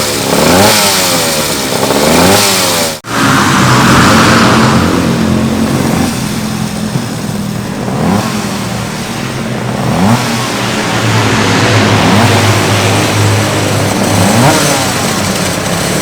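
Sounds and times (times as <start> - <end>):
two-stroke motorcycle engine idling: 0.0 - 3.0, 5.1 - 16.0.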